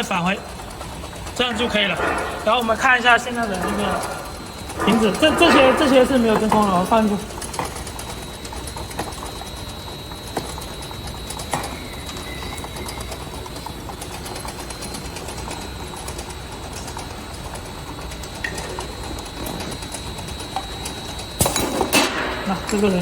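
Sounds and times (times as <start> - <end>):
conveyor fast ticking: 0.0 - 23.0
steady high whine: 0.0 - 23.0.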